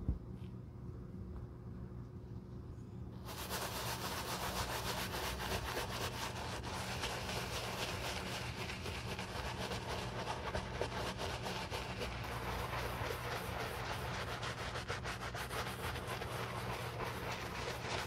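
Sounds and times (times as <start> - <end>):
bristle brush scrubbing leather: 3.2 - 18.0.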